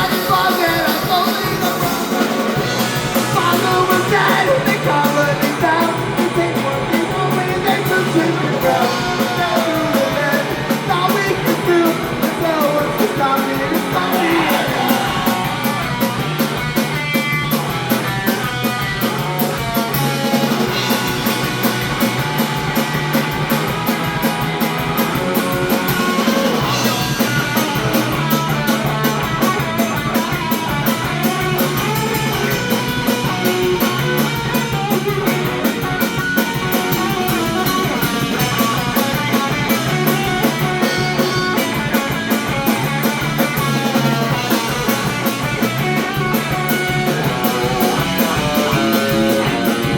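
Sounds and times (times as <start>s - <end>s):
drum kit: 0.0s - 49.9s
electric guitars: 0.0s - 49.9s.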